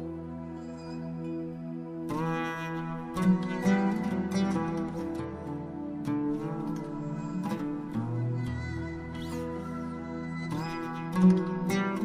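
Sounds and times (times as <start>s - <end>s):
slow plucked-string music: 0.0s - 12.0s.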